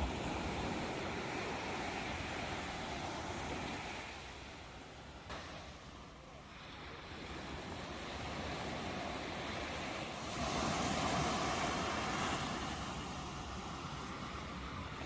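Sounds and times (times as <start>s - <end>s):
ocean waves on shore: 0.0s - 15.0s.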